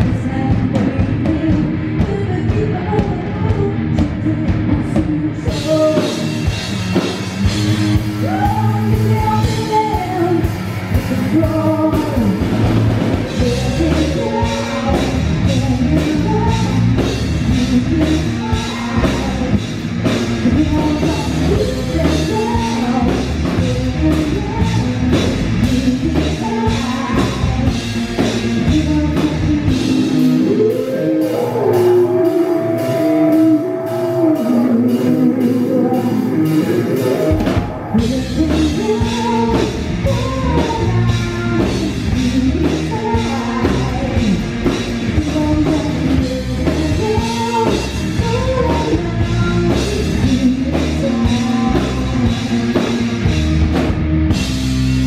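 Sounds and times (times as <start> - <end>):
woman singing lead: 0.0 - 54.5
drum kit: 0.0 - 55.0
electric bass guitar: 0.0 - 55.0.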